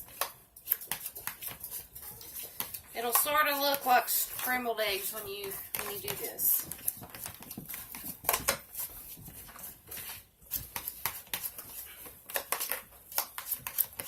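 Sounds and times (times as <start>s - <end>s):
fork mashing in a bowl: 0.0s - 14.0s.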